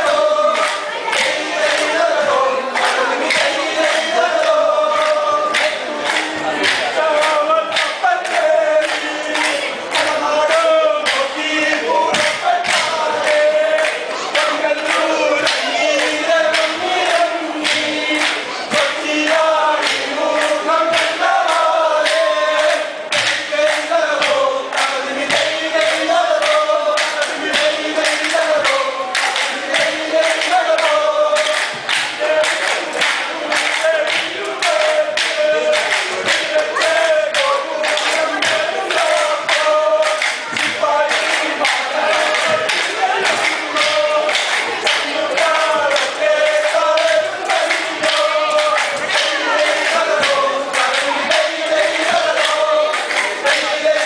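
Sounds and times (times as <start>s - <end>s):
men singing in chorus: 0.0s - 54.0s.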